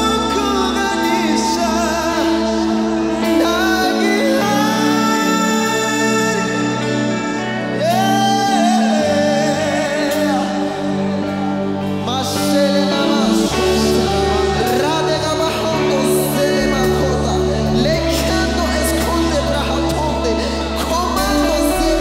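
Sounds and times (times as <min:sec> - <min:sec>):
gospel band with lead singer: 0:00.0 - 0:22.0.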